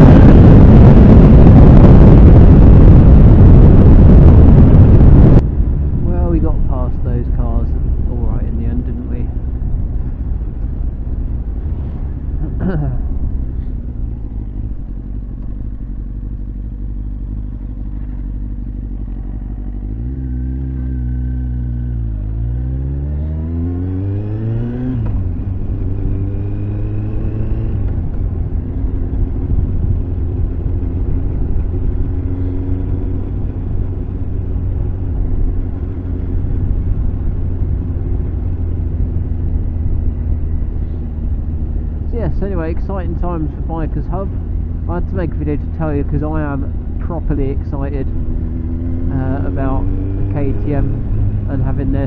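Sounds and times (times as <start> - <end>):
motorcycle engine accelerating: 0.0 - 52.0
wind rumble: 0.0 - 52.0.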